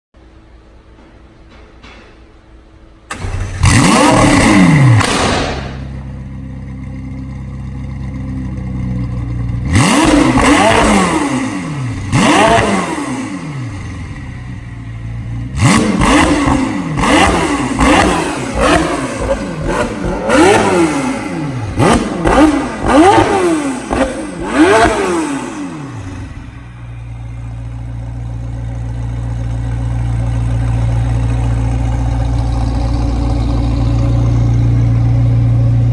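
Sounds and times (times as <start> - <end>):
sports car engine revving: 3.1 - 35.9.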